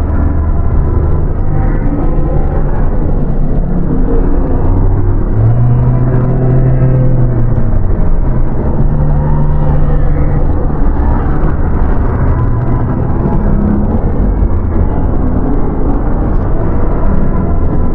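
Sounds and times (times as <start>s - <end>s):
dark ambient drone: 0.0s - 17.9s.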